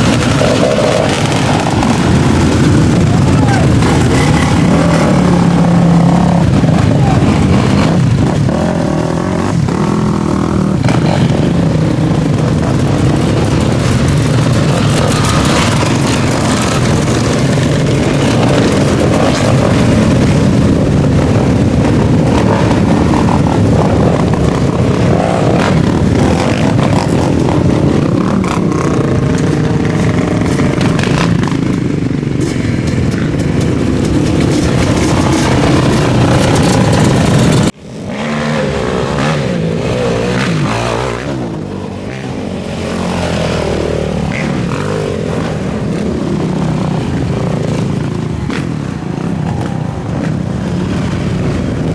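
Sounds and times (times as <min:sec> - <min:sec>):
motorcycle and quad engines revving: 0:00.0 - 0:51.9.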